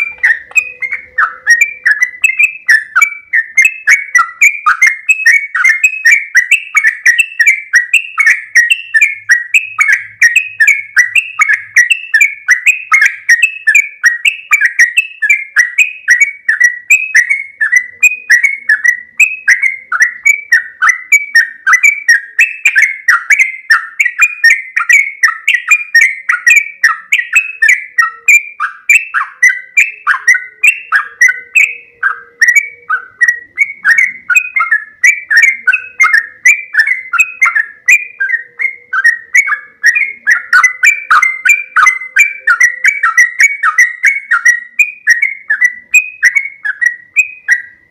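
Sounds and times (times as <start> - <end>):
bulbul singing rolling song: 0.0 - 47.9.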